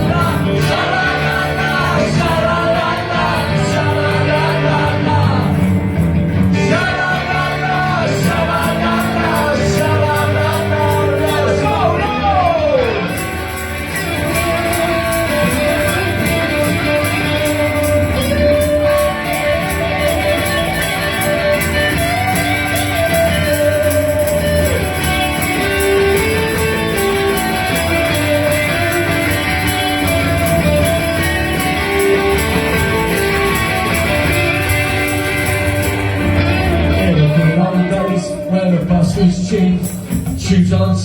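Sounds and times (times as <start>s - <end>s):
guitar melody: 0.0s - 41.0s
rock band playing: 0.0s - 41.0s.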